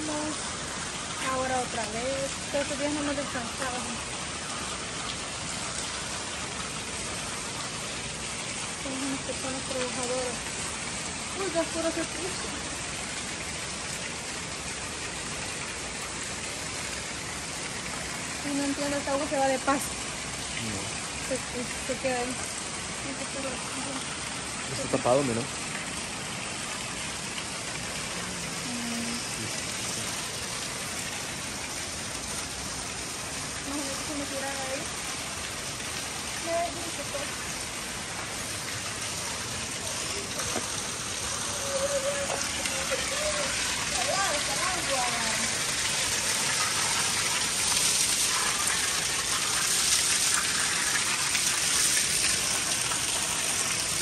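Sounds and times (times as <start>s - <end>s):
water spout splashing into pool: 0.0s - 54.0s.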